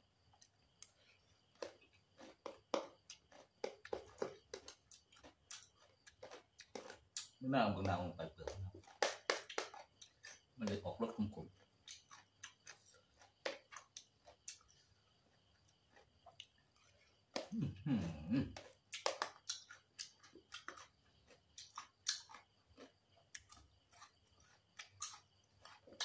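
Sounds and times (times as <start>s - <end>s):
crisp chewing crunches: 0.4s - 26.0s.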